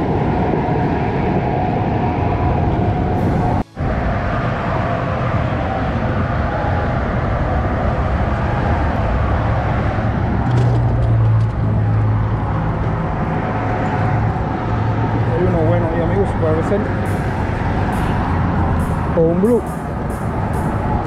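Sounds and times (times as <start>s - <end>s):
road traffic on a bridge: 0.0s - 21.0s
vehicle passing: 2.8s - 21.0s.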